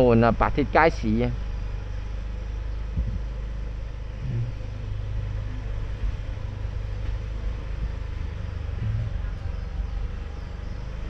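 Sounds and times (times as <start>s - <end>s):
passing vehicle engines rumbling: 0.0s - 11.0s.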